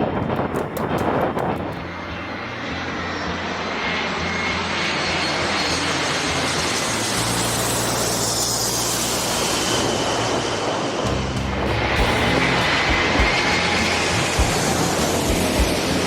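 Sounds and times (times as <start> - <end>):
jet airliner engines passing: 0.0 - 16.0.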